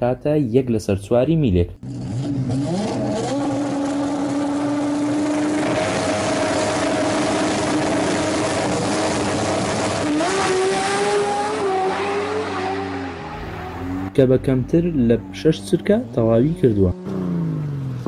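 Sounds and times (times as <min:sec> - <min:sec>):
car engine revving high: 0:01.8 - 0:14.2, 0:15.1 - 0:18.0.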